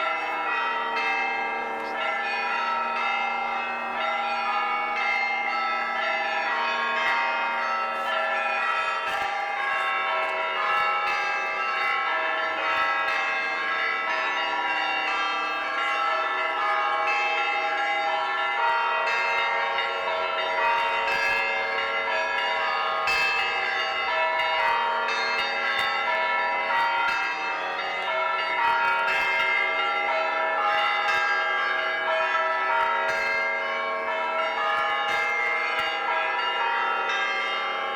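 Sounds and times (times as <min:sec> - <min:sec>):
church bells pealing: 0:00.0 - 0:37.9.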